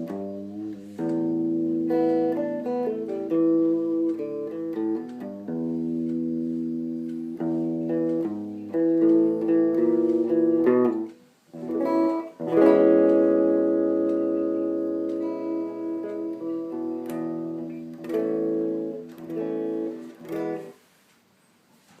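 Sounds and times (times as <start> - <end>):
electric guitar strumming chords: 0.0 - 20.8.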